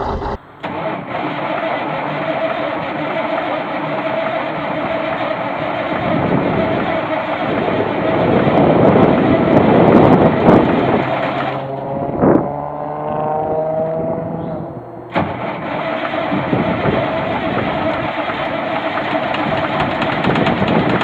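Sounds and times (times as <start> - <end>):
large diesel engine running: 0.0 - 21.0.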